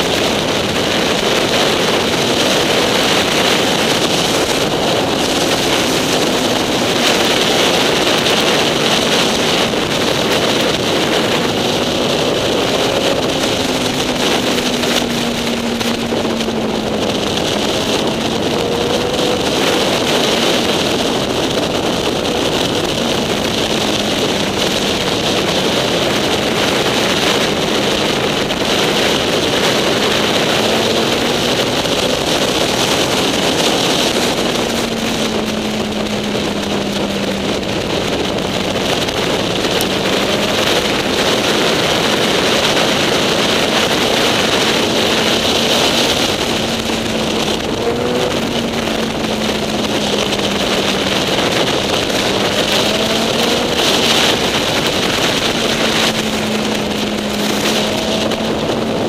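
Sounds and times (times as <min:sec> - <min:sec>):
motorcycle engine running: 0:00.0 - 0:59.0
wind on the microphone: 0:00.0 - 0:59.0.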